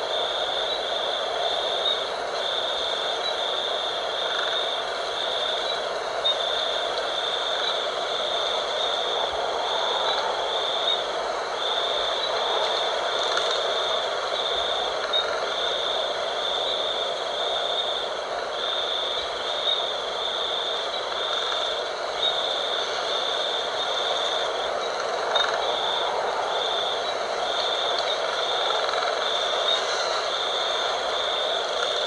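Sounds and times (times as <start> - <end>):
wind blowing: 0.0 - 32.0.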